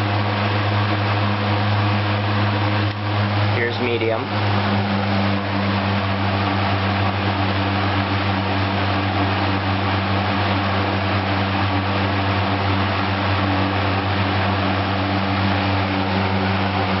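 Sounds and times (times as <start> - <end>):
fan motor hum: 0.0 - 17.0
rush of air from fan: 0.0 - 17.0.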